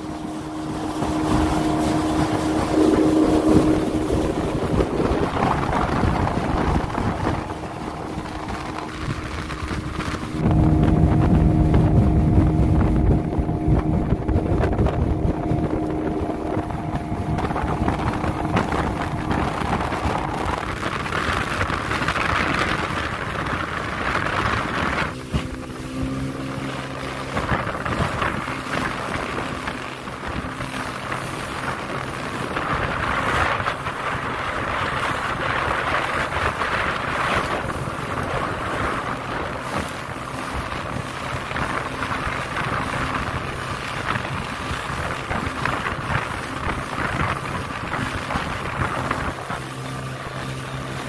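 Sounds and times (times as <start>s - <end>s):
motorboat engine droning: 0.0s - 51.0s
wind buffeting microphone: 0.0s - 51.0s.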